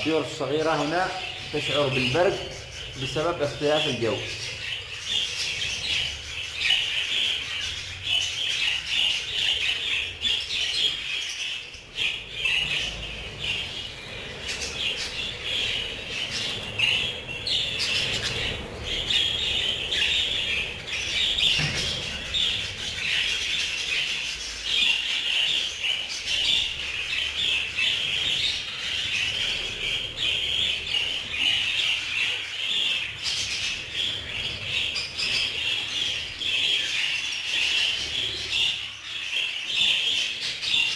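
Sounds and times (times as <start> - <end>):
flock of budgerigars chirping: 0.0 - 40.9.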